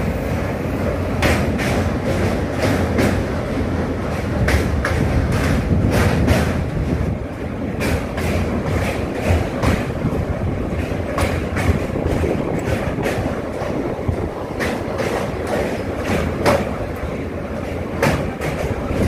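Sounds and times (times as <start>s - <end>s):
train rumbling on bridge: 0.0s - 19.0s
train wheels clacking: 0.0s - 19.0s.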